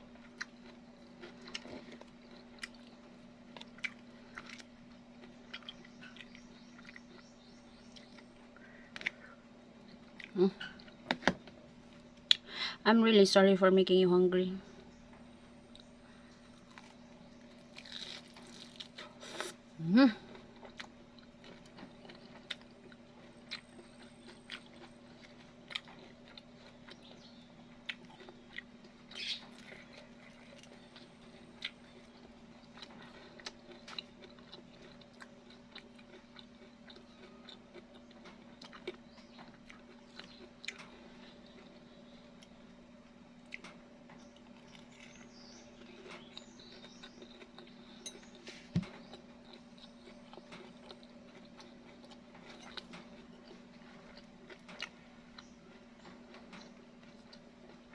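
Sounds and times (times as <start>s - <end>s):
chewing crunchy fried food: 0.0s - 12.6s, 14.7s - 57.9s
faint steady hum: 0.0s - 57.9s.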